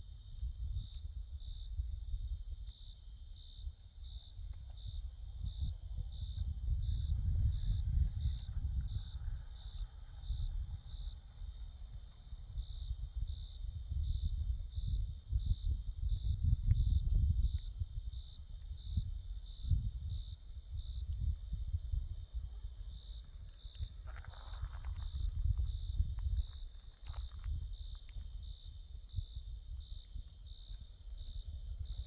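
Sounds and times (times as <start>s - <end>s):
insect chirping: 0.0s - 32.0s
insect trill: 0.0s - 32.0s
low rumble on microphone: 3.4s - 32.0s.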